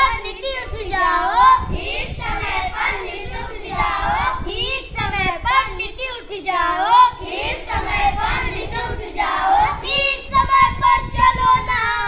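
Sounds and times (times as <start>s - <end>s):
children singing together: 0.0s - 12.0s.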